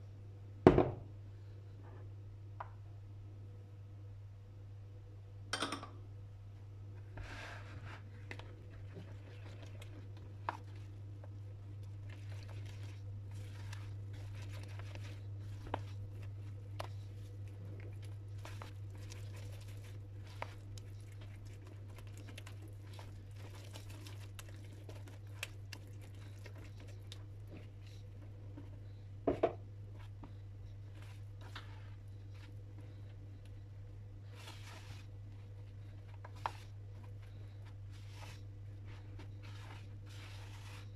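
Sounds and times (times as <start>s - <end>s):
spatula stirring dough: 7.0s - 40.9s.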